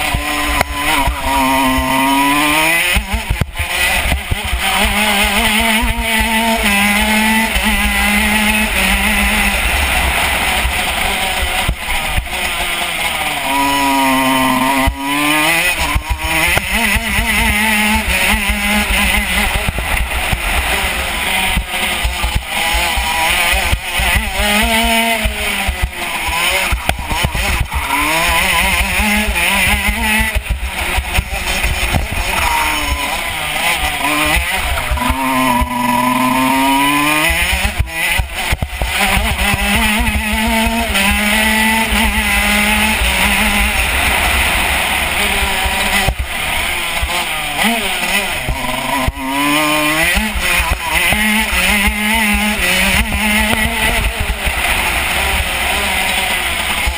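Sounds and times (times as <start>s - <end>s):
two-stroke kart engine revving: 0.0s - 56.9s.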